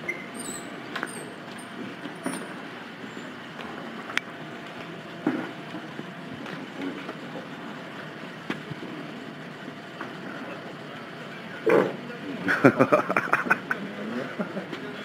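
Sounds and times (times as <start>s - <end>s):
street noise hum: 0.0s - 15.0s.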